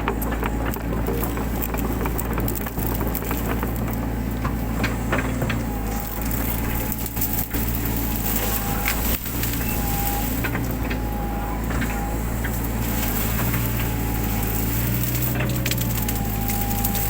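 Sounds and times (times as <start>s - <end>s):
brush crackling and snapping: 0.0s - 17.0s
excavator engine running: 0.0s - 17.0s.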